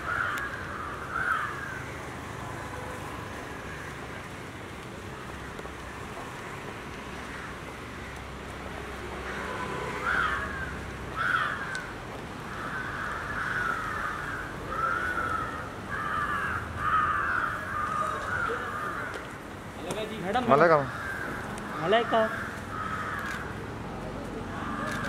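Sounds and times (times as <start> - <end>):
crows cawing: 0.0 - 6.4, 7.0 - 23.7, 24.4 - 25.0
low street background: 0.0 - 25.0.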